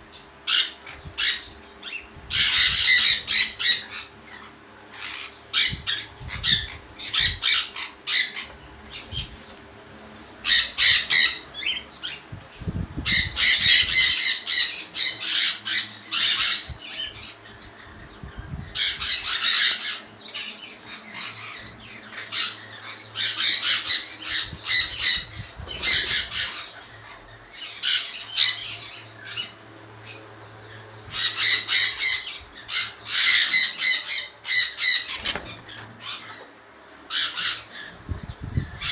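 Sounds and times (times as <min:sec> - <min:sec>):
parrots screeching: 0:00.1 - 0:09.6, 0:10.4 - 0:12.2, 0:13.0 - 0:38.9.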